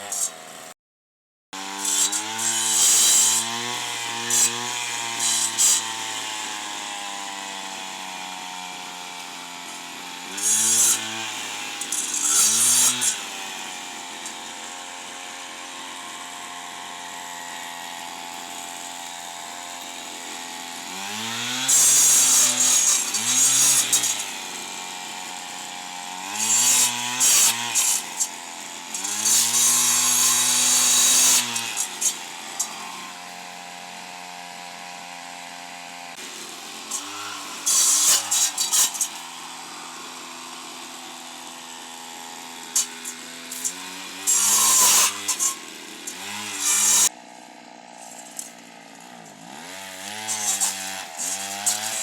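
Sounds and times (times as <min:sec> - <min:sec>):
brushcutter revving and idling: 0:00.0 - 0:00.7, 0:01.6 - 0:52.0.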